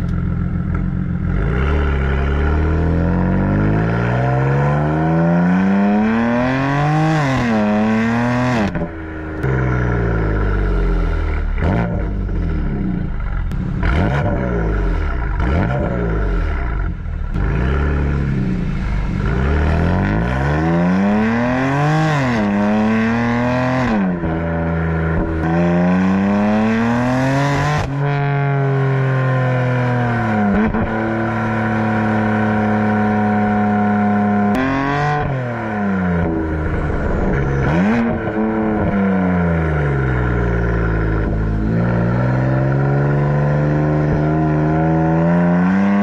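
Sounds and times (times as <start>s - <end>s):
car engine accelerating through gears: 0.0s - 46.0s.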